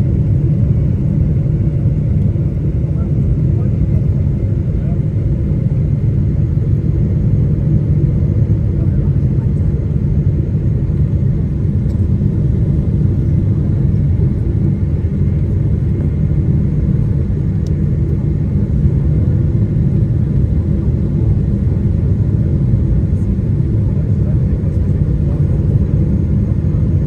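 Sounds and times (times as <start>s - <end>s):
airplane deep rumble: 0.0s - 27.0s.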